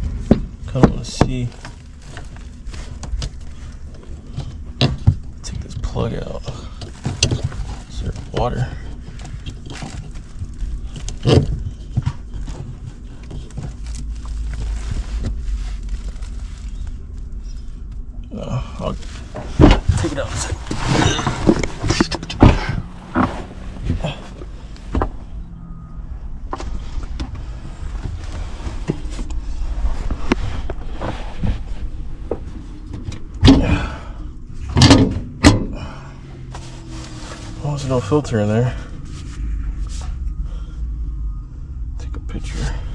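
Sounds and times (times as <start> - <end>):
rustling: 0.0 - 35.3, 35.9 - 41.8
steady low rumble: 0.0 - 42.9.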